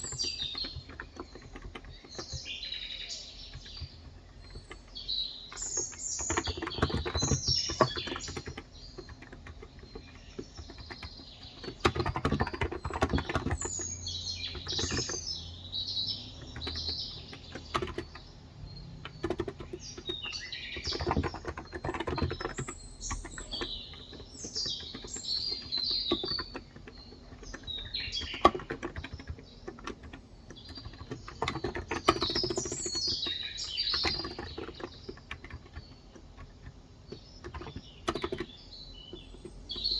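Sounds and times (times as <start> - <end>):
keyboard typing clicks: 0.0 - 15.3, 16.2 - 39.9
birds chirping: 0.0 - 39.9.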